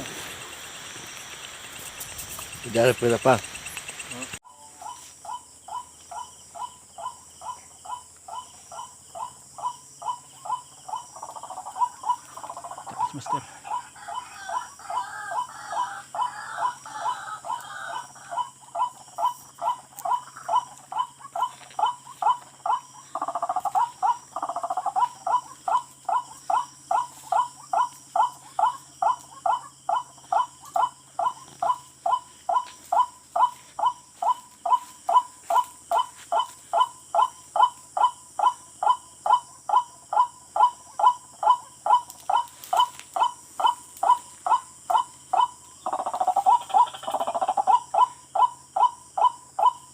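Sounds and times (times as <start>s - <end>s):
faint high insect drone: 0.0s - 49.9s
rail bird calling: 1.3s - 49.9s.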